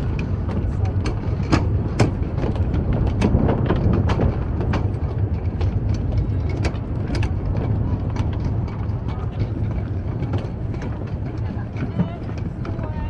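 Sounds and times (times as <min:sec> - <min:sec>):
low city rumble: 0:00.0 - 0:13.0.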